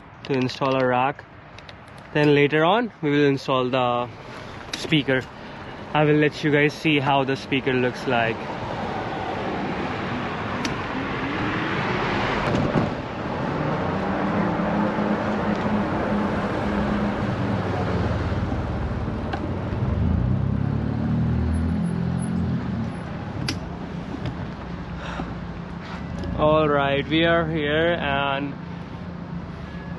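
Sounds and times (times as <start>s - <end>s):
road and air noise: 0.0s - 29.9s
vehicles passing: 0.0s - 29.9s.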